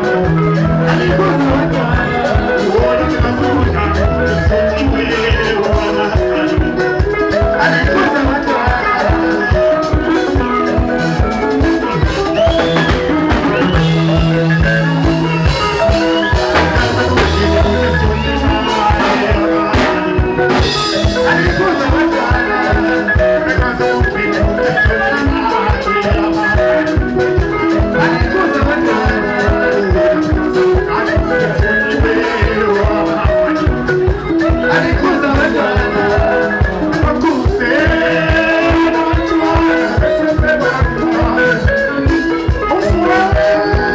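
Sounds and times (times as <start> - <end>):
electric bass: 0.0 - 43.9
electric guitars: 0.0 - 43.9
fast drum-kit beat: 0.0 - 43.9
man singing into a microphone: 0.0 - 43.9.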